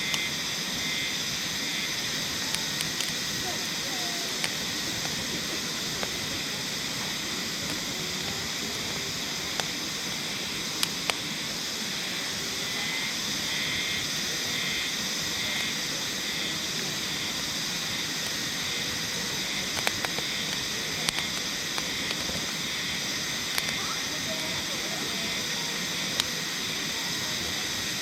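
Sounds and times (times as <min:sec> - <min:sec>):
wood crackling in a stove: 0:00.0 - 0:28.0.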